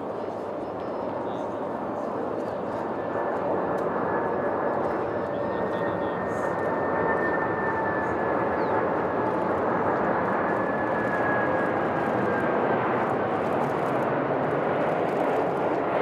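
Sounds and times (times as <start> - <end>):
high jet engine whine: 0.0 - 16.0
jet engines roaring: 0.0 - 16.0.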